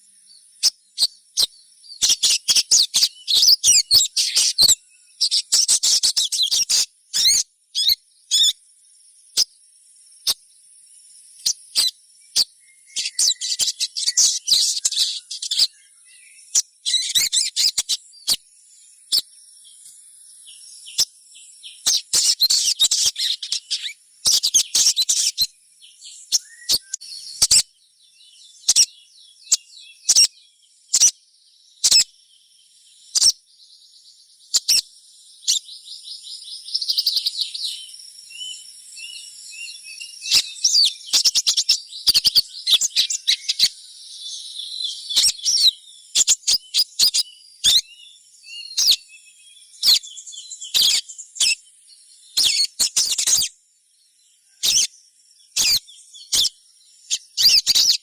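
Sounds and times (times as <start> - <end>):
bird twittering rapidly: 0.0 - 8.6, 9.2 - 10.4, 11.0 - 31.2, 31.8 - 32.2, 33.0 - 33.4, 34.4 - 53.6, 54.5 - 58.0
bird chirping: 0.0 - 58.0.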